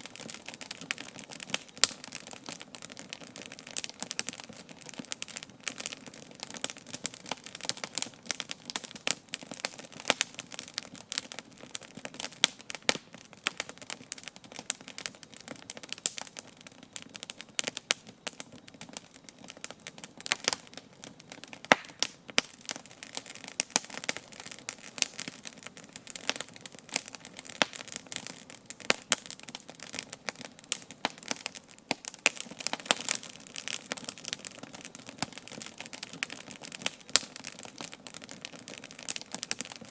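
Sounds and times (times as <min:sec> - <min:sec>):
campfire crackling and popping: 0:00.0 - 0:39.9
low fire hiss: 0:00.0 - 0:39.9.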